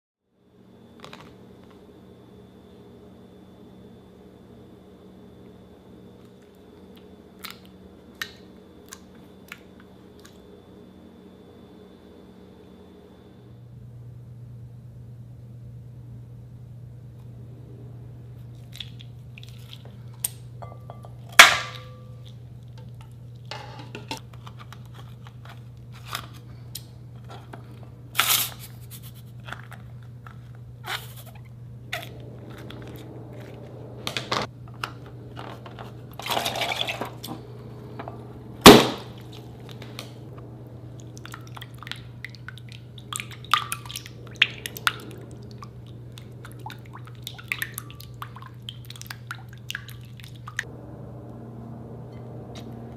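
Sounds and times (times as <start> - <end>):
steady low hum: 0.3 - 52.9.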